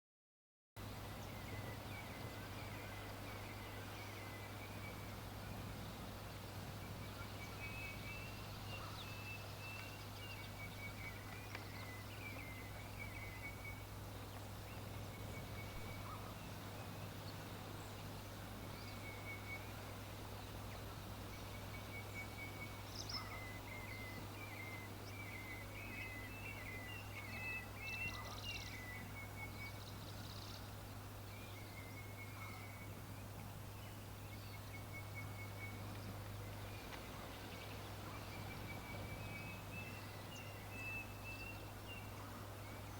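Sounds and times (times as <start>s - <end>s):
songbirds chirping and twittering: 0.8s - 42.9s.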